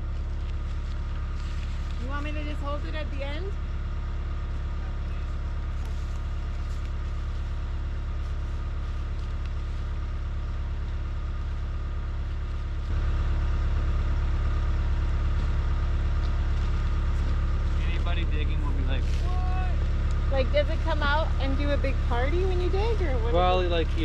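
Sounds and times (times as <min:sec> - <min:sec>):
trencher engine running: 0:00.0 - 0:24.0.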